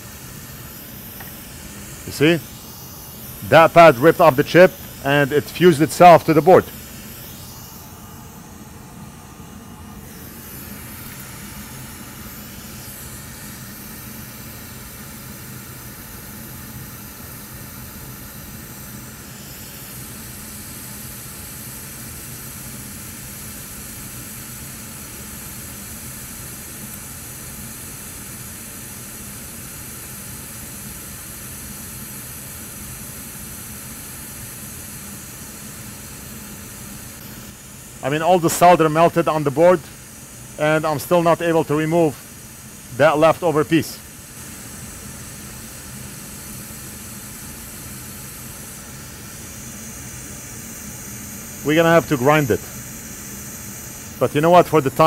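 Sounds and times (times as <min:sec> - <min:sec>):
hot air blower hissing: 0:00.0 - 0:55.0.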